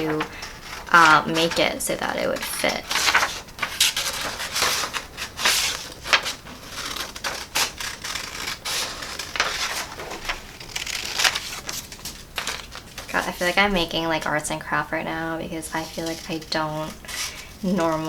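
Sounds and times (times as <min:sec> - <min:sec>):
scissors snipping paper: 0:00.0 - 0:13.8, 0:15.8 - 0:18.0
paper rustling: 0:00.0 - 0:18.0.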